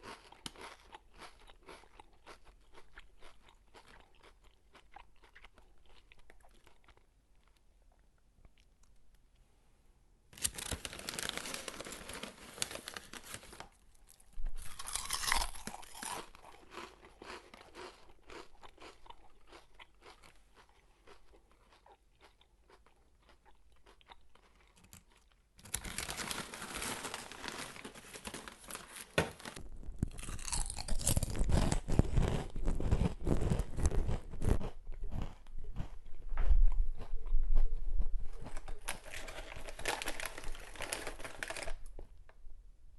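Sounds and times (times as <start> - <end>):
person crunching potato chips: 0.0 - 7.6, 10.4 - 36.2, 38.3 - 42.1.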